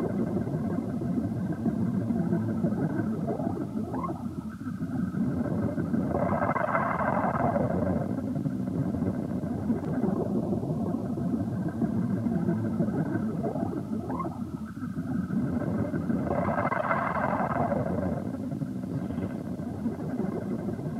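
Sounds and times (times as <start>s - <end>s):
rumbling electronic noise drone: 0.0s - 20.9s.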